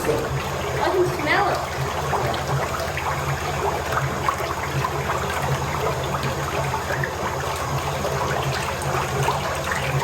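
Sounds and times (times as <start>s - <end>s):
liquid churning: 0.0s - 10.0s.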